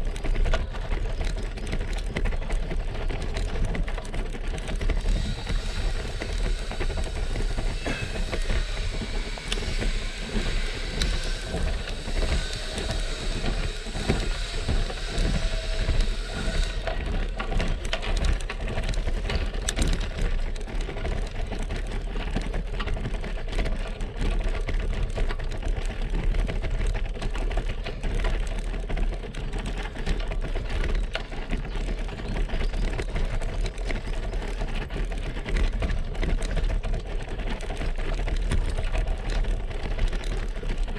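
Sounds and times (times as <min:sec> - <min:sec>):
bike rattling over cobblestones: 0:00.0 - 0:40.9.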